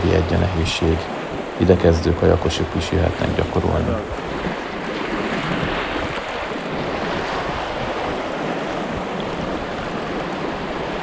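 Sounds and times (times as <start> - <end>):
river current rushing: 0.0 - 11.0
wind buffeting microphone: 0.0 - 11.0.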